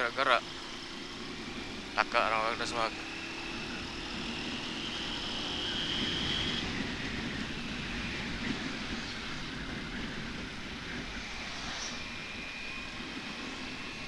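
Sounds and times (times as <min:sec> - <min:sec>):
motorcycle engine running: 0:00.0 - 0:11.4
thin whine: 0:00.0 - 0:14.0
wind and road noise: 0:00.0 - 0:14.0.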